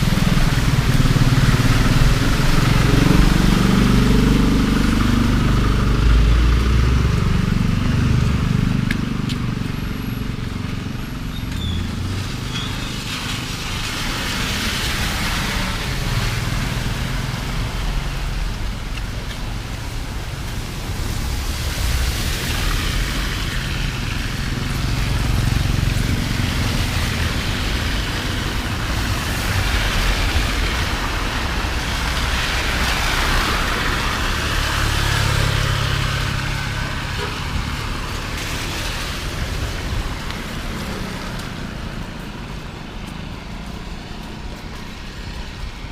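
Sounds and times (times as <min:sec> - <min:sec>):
vehicles passing on wet road: 0:00.0 - 0:45.9.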